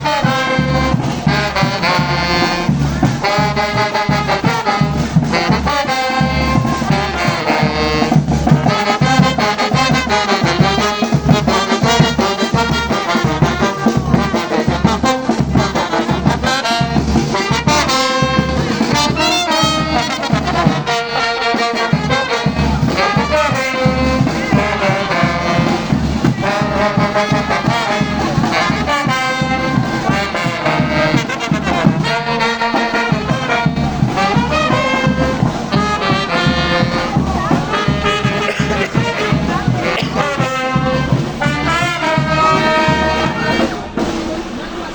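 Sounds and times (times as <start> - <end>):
brass horn lines: 0.0 - 44.9
pulsing drum beat: 0.0 - 44.9.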